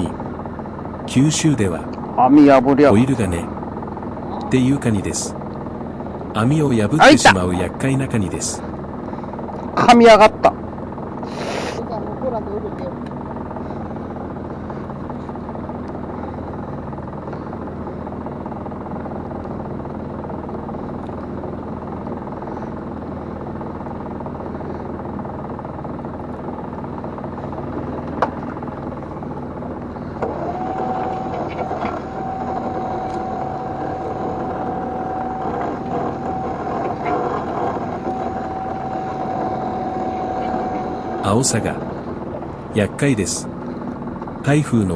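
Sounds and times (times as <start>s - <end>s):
boat engine running: 0.0s - 44.9s
steady high whine: 0.0s - 44.9s.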